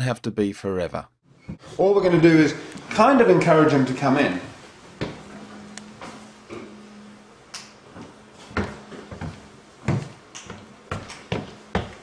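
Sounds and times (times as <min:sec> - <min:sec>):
faint steady hum: 0:01.3 - 0:12.0.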